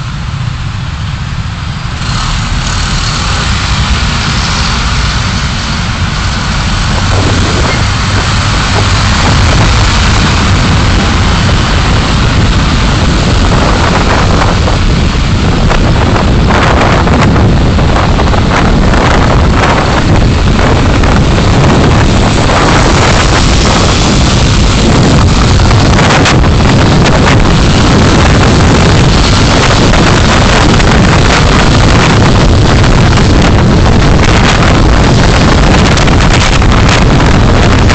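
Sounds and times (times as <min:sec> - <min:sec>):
road and engine rumble: 0:00.0 - 0:37.9
wind rush: 0:00.0 - 0:37.9.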